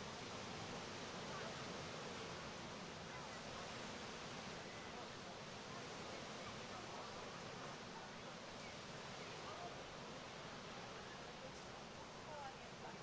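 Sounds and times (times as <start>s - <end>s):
small waves breaking: 0.0s - 13.0s.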